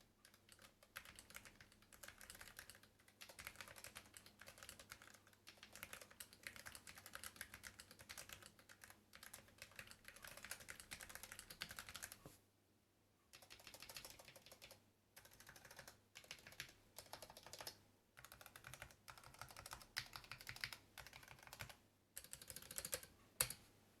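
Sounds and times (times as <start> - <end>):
mechanical keyboard typing: 0.2 - 12.2, 13.4 - 23.6.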